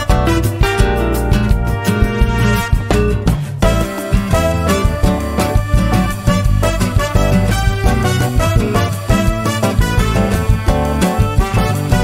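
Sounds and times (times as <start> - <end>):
upbeat salsa music: 0.0 - 12.0.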